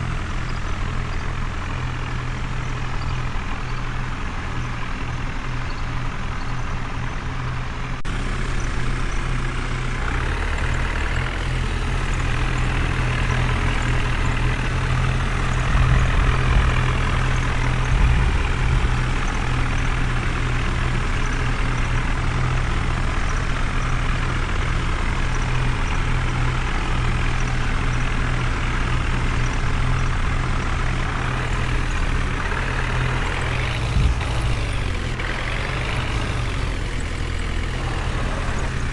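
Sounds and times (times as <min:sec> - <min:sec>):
heavy vehicle engine rumble: 0:00.0 - 0:38.9.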